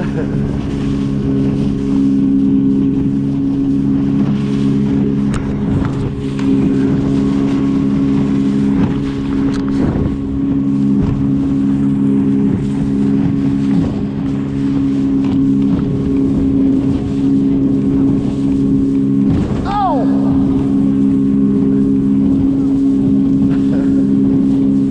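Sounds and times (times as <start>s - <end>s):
small boat motor running: 0.0s - 24.9s
wind buffeting microphone: 0.0s - 24.9s.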